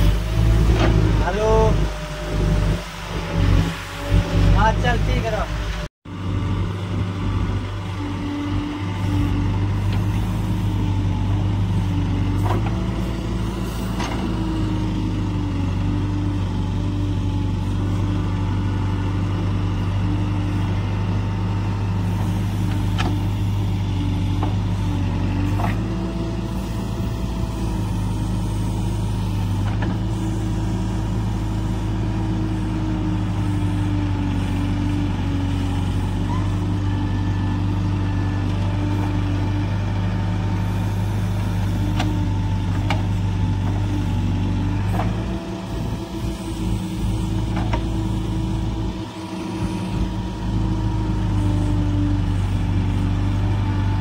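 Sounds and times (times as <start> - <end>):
backhoe diesel engine running: 0.0 - 54.0.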